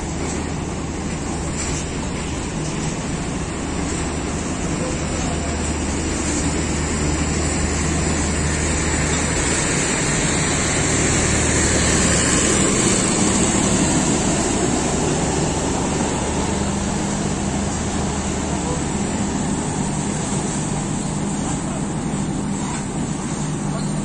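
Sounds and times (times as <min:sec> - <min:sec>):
train wheels rumbling on rails: 0:00.0 - 0:24.0
diesel generator van passing: 0:03.2 - 0:23.8.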